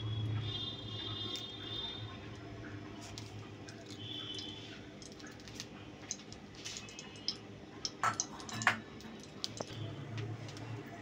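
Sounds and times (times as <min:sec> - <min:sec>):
oil crackling and popping: 0:00.0 - 0:11.0.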